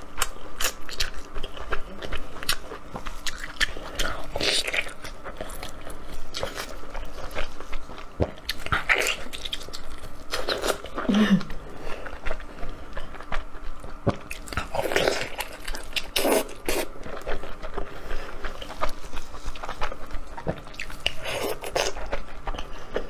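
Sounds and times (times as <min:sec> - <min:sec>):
biting and chewing meat: 0:00.0 - 0:23.0.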